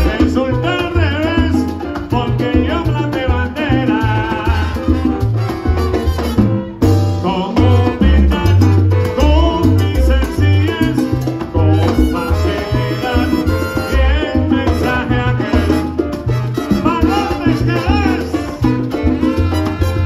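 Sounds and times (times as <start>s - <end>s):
salsa band playing: 0.0s - 20.0s
upright bass line: 0.0s - 20.0s.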